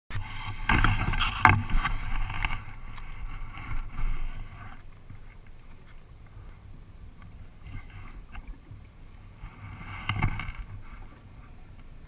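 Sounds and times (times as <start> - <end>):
water lapping against kayak hull: 0.1 - 12.0
wind on microphone: 0.1 - 12.0.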